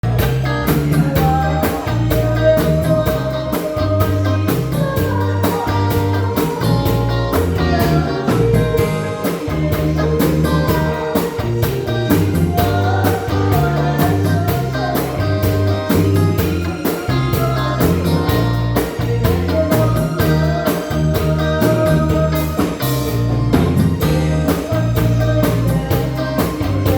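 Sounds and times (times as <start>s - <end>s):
song with drum beat and bass: 0.0s - 26.9s.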